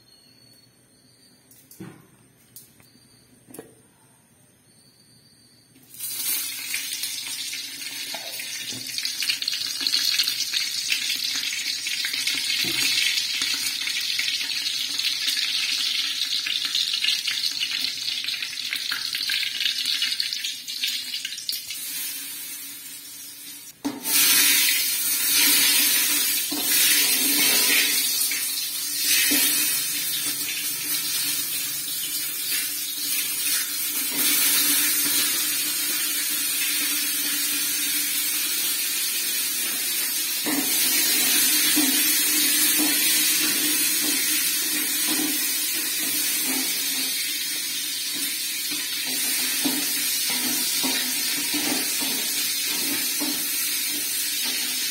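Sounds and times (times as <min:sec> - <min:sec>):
food sizzling in hot oil: 0:05.9 - 0:54.9.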